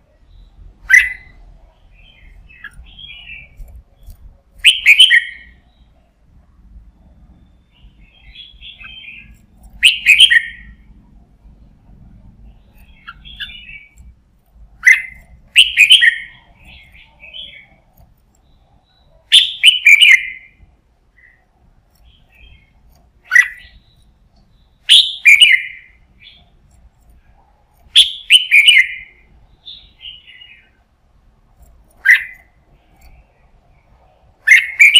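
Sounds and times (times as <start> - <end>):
bird singing chirpy phrases: 0.0 - 6.2, 7.4 - 11.7, 12.3 - 14.1, 14.8 - 26.6, 27.3 - 30.9, 32.0 - 34.9
soft bird twittering: 0.0 - 30.9, 31.6 - 34.9.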